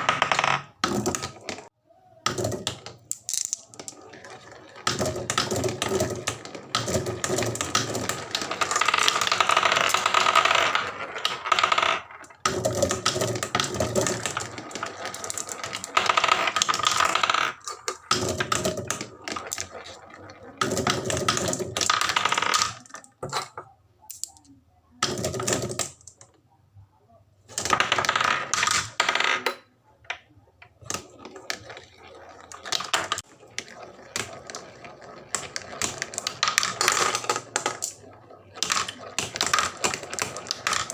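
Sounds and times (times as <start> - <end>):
marbles rolling down a wooden run: 0.0 - 1.7, 2.3 - 23.4, 25.0 - 26.2, 27.5 - 29.6, 30.8 - 40.9.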